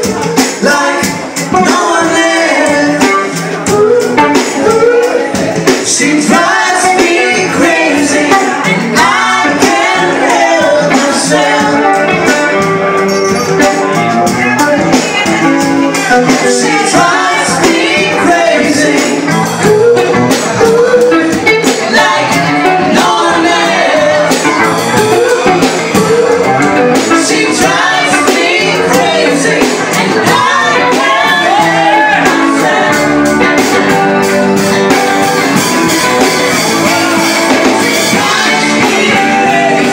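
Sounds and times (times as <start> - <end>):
electric guitar: 0.0 - 39.9
live band playing: 0.0 - 39.9
person singing: 0.0 - 39.9.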